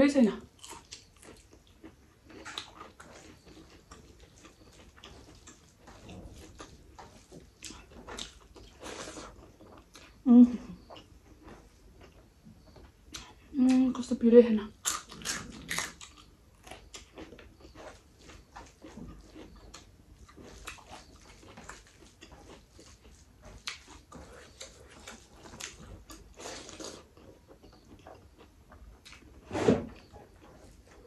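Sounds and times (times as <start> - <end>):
person chewing with mouth sounds: 0.5 - 12.2, 13.1 - 13.8, 14.7 - 29.4.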